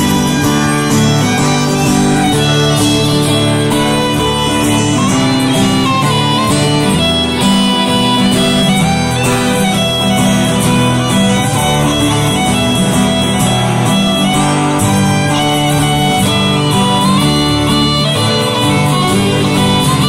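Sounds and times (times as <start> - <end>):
fiddle melody: 0.0 - 20.0
plucked strings: 0.0 - 20.0
strummed guitar chords: 0.0 - 20.0.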